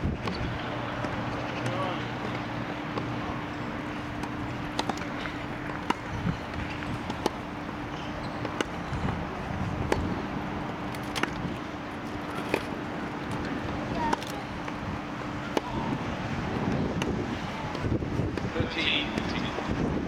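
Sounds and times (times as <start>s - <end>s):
outdoor background noise: 0.0s - 20.0s
steady low hum: 0.0s - 20.0s
racquets striking tennis ball: 0.2s - 19.4s.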